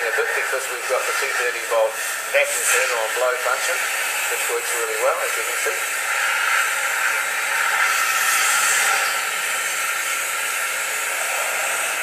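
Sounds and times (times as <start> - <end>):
vacuum cleaner blowing air: 0.0 - 12.0.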